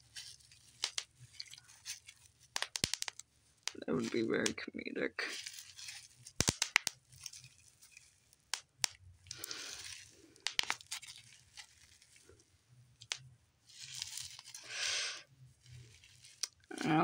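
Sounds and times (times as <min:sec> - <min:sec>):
bubble wrap popping: 0:00.0 - 0:12.3, 0:12.9 - 0:17.0
plastic crinkling: 0:00.0 - 0:17.0.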